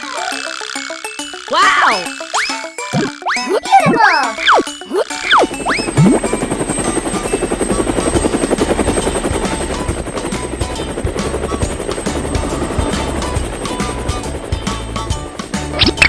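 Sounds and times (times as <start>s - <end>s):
cartoon vehicle chopping pulse: 0.0s - 8.6s, 9.3s - 16.0s
background music: 0.0s - 16.0s.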